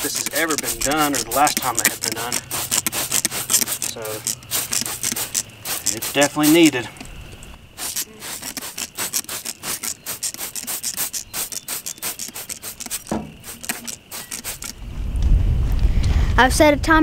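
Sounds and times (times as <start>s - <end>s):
spray bottle hissing: 0.0s - 14.8s.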